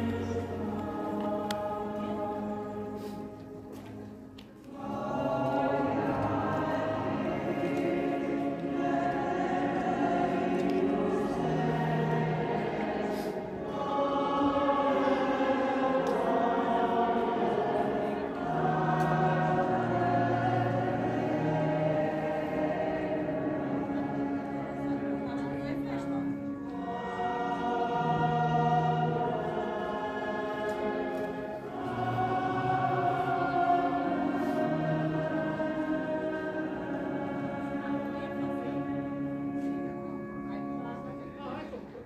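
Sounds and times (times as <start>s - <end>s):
choir singing long phrases: 0.0s - 40.5s.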